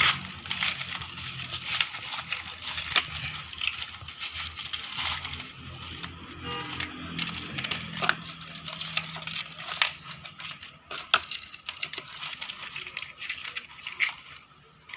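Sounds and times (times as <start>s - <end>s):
metal crunching and knocking: 0.0s - 14.9s.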